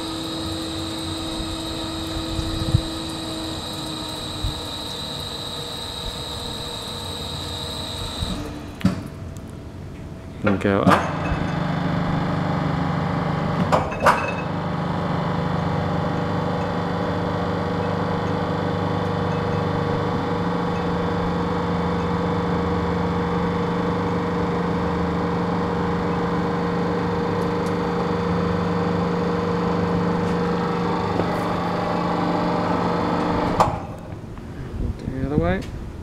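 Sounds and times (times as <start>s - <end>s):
tilt drive mechanical hum: 0.0s - 35.4s.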